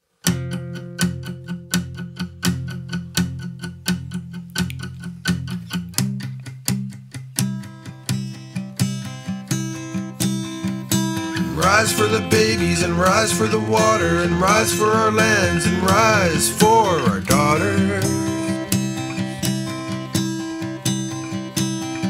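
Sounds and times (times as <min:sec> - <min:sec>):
acoustic guitar strumming: 0:00.2 - 0:22.0.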